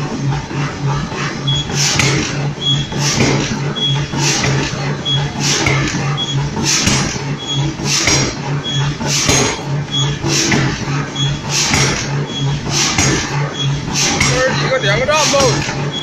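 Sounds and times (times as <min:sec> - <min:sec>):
machine pulsing run: 0:00.0 - 0:16.0
forging hammer blows ringing: 0:01.4 - 0:16.0.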